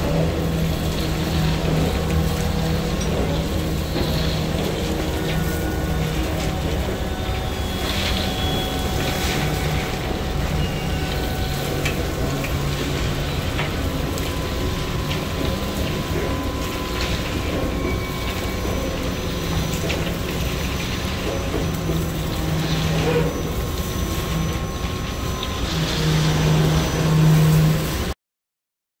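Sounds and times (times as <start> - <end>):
coal pouring from chute: 0.0 - 28.2
machinery humming: 0.0 - 28.2.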